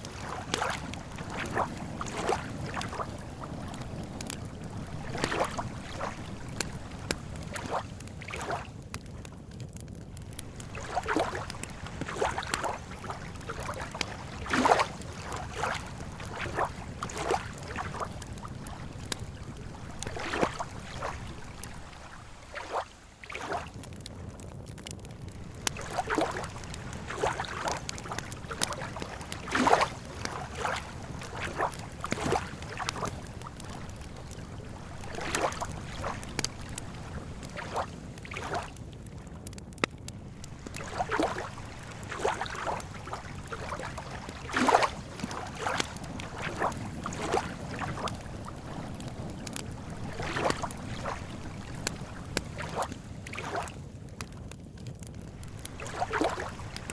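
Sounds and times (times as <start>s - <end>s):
lake water lapping against shore: 0.0s - 54.3s, 55.2s - 56.9s.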